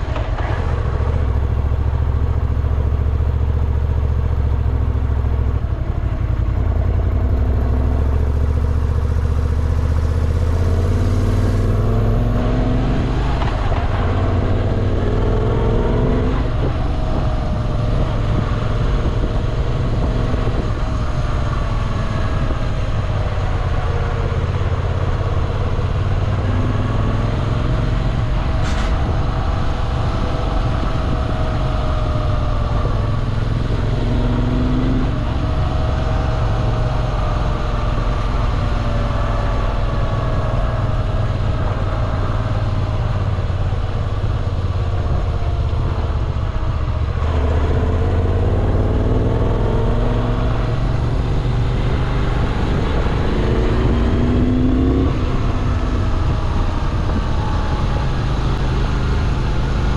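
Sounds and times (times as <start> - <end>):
motorcycle engine riding: 0.0 - 59.9.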